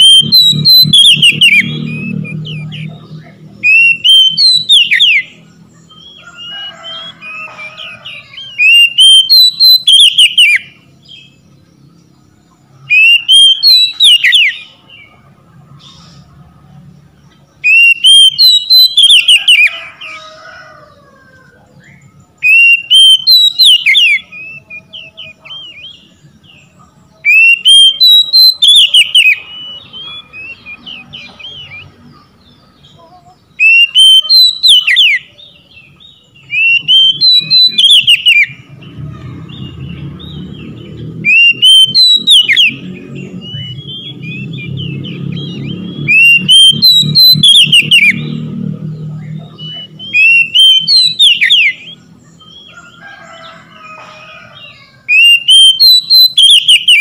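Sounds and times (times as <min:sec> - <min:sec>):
bird whistling song: 0:00.0 - 0:12.0, 0:12.7 - 0:15.1, 0:17.3 - 0:20.3, 0:21.8 - 0:57.0.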